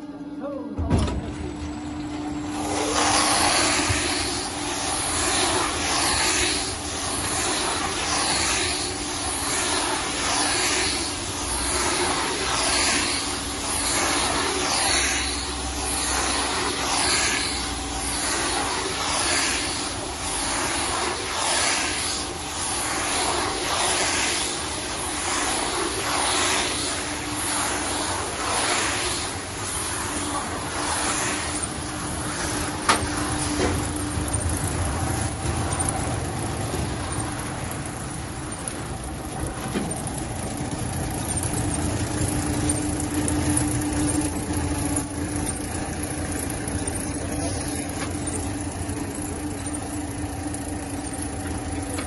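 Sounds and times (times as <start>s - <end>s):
baler machine hum and hiss: 0.0s - 52.0s.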